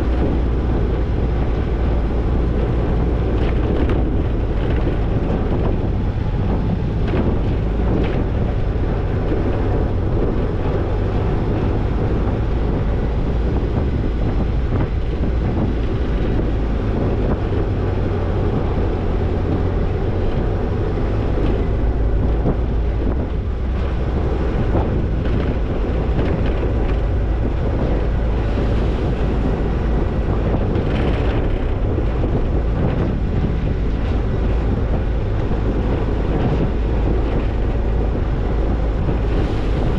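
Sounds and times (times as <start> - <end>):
car engine and tyres rumbling: 0.0 - 39.9
wind buffeting microphone: 0.0 - 39.9.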